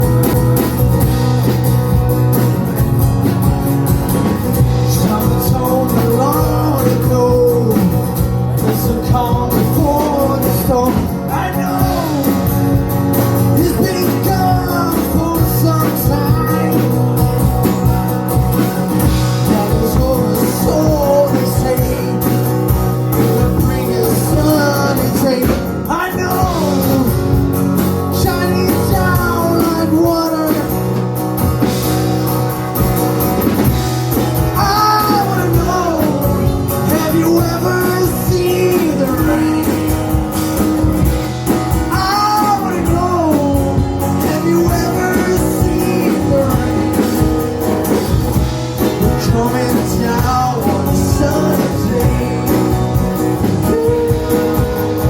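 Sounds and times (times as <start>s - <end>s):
bass line: 0.0s - 55.0s
drums: 0.0s - 55.0s
guitar: 0.0s - 55.0s.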